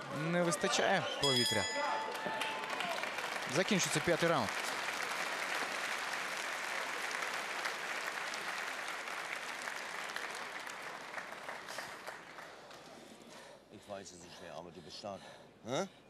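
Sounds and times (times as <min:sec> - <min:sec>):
crowd applauding: 0:00.0 - 0:13.3.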